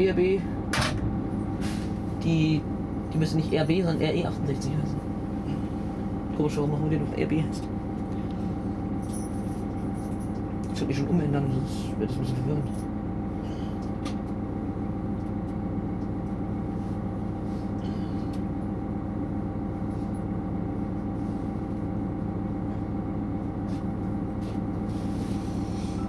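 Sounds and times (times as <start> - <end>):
diesel railcar engine idling: 0.0 - 26.0.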